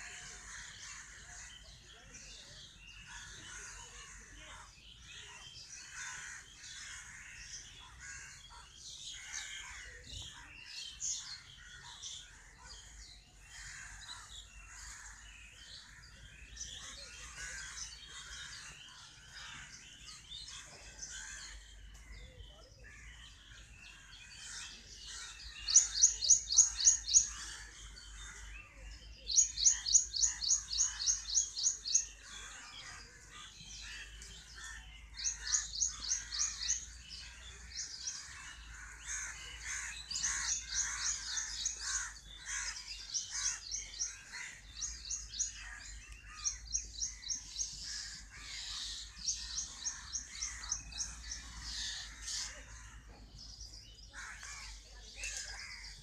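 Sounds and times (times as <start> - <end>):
birds chattering softly: 0.0 - 56.0.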